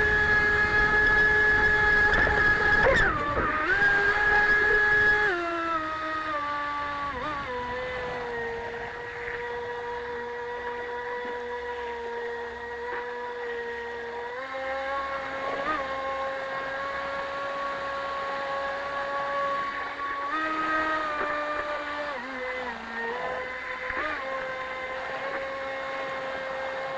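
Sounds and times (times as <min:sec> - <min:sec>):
toy boat motor running: 0:00.0 - 0:26.9.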